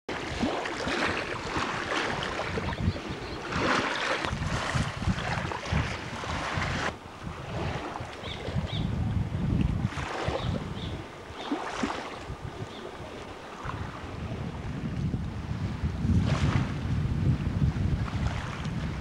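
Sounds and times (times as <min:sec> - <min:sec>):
wind buffeting microphone: 0:00.1 - 0:19.0.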